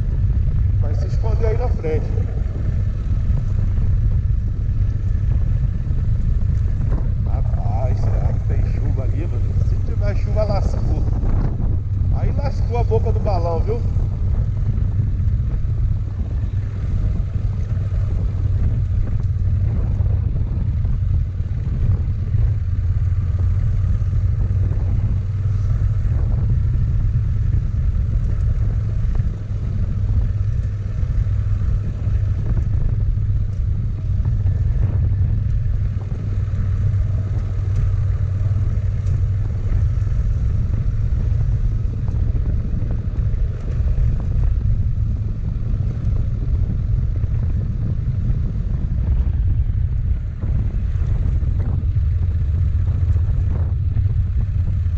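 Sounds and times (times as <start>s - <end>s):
motorcycle engine rumbling: 0.0s - 54.9s.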